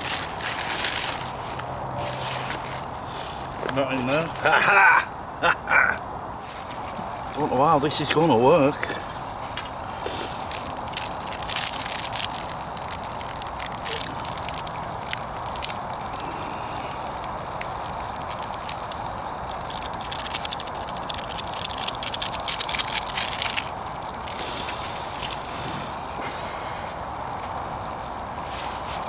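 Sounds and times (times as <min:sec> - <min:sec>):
wood fire crackling: 0:00.0 - 0:05.1, 0:05.7 - 0:29.0
steady hiss: 0:00.0 - 0:29.0.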